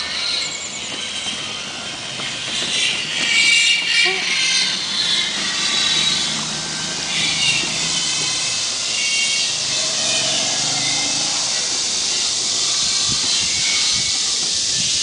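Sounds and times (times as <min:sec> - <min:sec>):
electric motor hiss and whine: 0:00.0 - 0:15.0.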